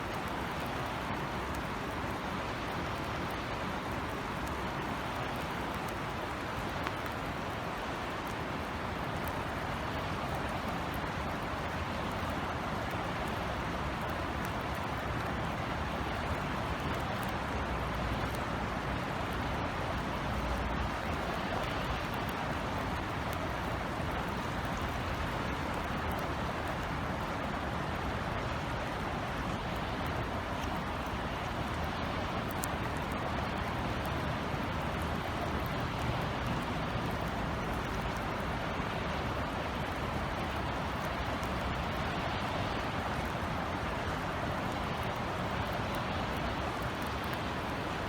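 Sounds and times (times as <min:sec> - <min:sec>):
rain drop ticks: 0:00.0 - 0:48.0
steady rain hiss: 0:00.0 - 0:48.0.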